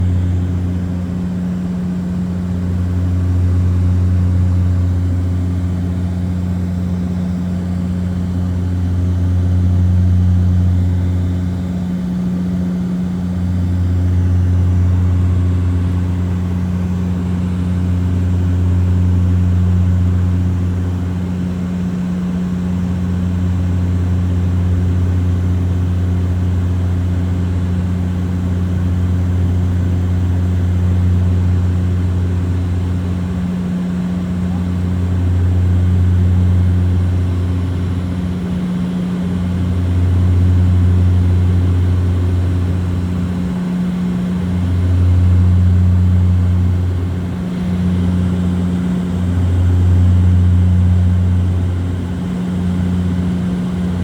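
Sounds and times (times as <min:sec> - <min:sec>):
propeller airliner drone: 0:00.0 - 0:54.0.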